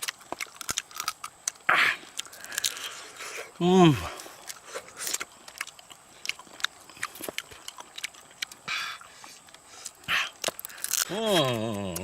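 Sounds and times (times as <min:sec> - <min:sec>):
crab shell cracking and chewing: 0:00.0 - 0:12.0.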